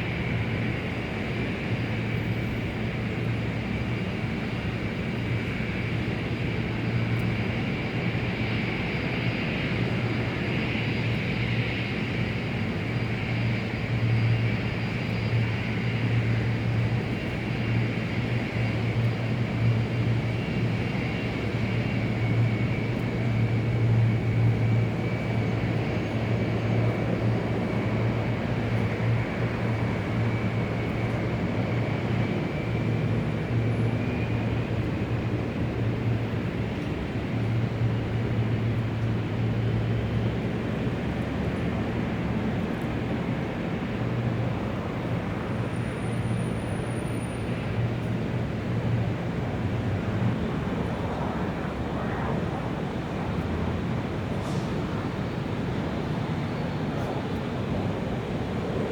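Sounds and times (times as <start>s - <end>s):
jet engines droning: 0.0s - 58.9s.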